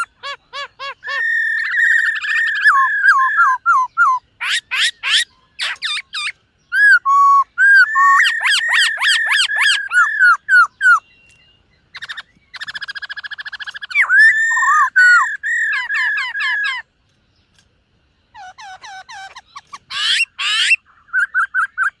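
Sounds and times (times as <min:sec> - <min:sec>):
bird whistling song: 0:00.0 - 0:16.9, 0:18.3 - 0:22.0.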